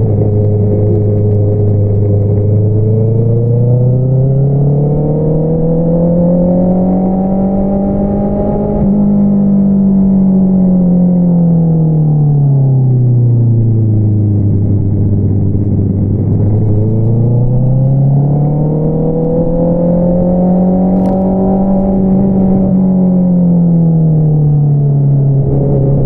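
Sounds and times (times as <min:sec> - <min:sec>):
motorcycle engine revving: 0:00.0 - 0:10.8, 0:14.2 - 0:23.9, 0:25.2 - 0:26.0.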